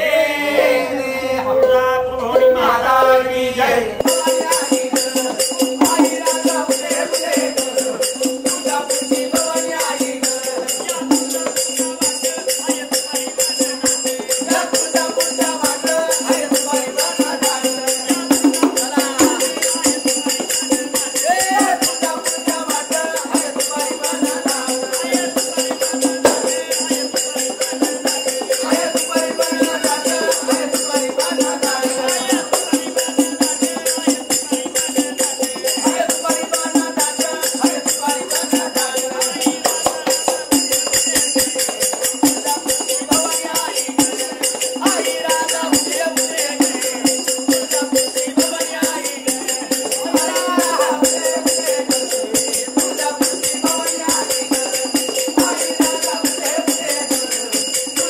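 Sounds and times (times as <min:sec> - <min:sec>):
person singing: 0:00.0 - 0:58.0
drum beats: 0:01.6 - 0:58.0
hand cymbals jingling: 0:04.0 - 0:58.0.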